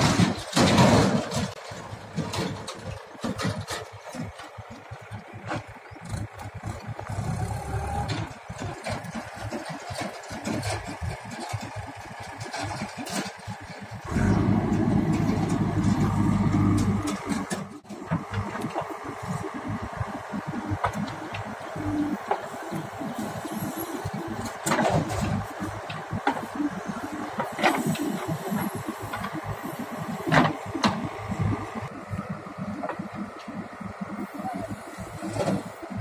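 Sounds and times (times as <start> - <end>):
backhoe engine running: 0.0 - 36.0.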